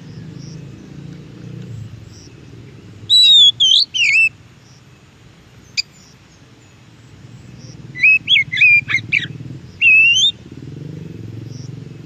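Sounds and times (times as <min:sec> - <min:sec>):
bird singing whistled notes: 0:00.0 - 0:05.0, 0:05.6 - 0:10.4.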